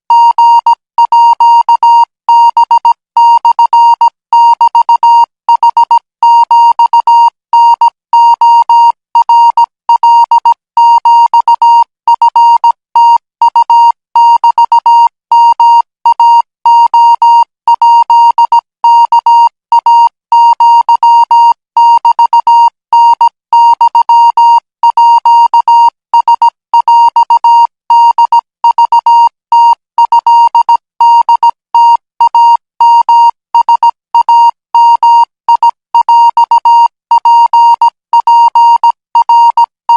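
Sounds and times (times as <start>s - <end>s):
morse code beeping tone: 0.1s - 39.9s.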